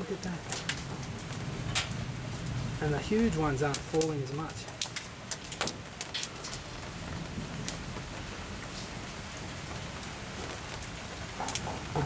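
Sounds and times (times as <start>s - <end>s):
hailstones ticking: 0.0s - 12.0s
steady rain: 0.0s - 12.0s.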